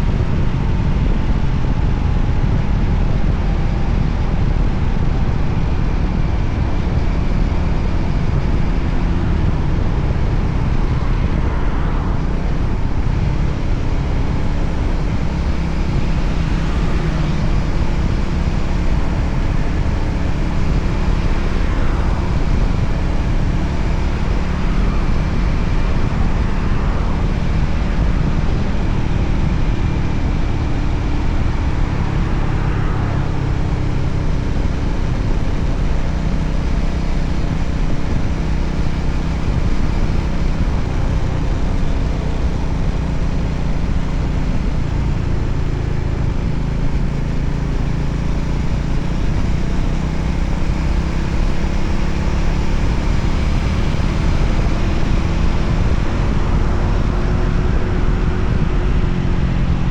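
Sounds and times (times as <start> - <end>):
motorcycle engine running: 0.0 - 59.9
wind rush on microphone: 0.0 - 59.9
faint rising and falling sweep: 6.8 - 59.1.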